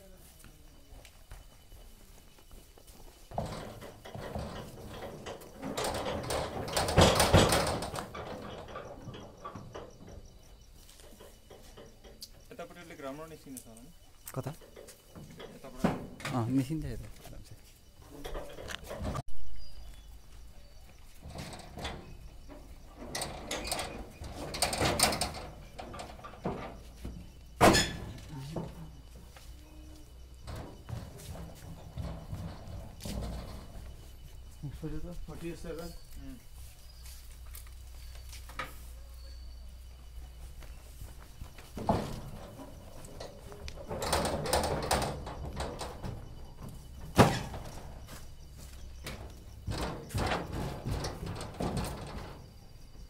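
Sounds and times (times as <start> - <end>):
footsteps: 0.0 - 12.5, 13.4 - 52.4.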